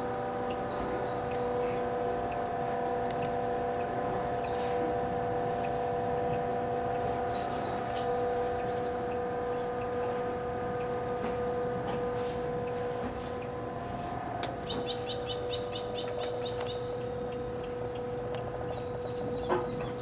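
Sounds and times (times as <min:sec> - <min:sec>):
bird calling: 0:00.0 - 0:20.0
steady low hum: 0:00.0 - 0:20.0.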